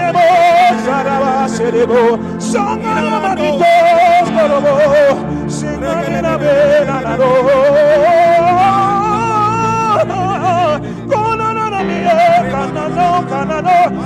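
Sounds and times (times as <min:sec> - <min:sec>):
person singing: 0:00.0 - 0:14.0
sustained keyboard chords: 0:00.0 - 0:14.0.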